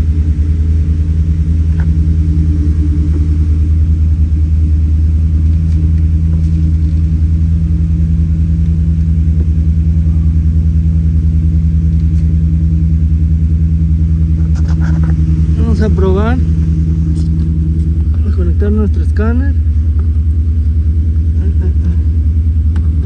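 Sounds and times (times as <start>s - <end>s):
engine idling low rumble: 0.0s - 23.0s.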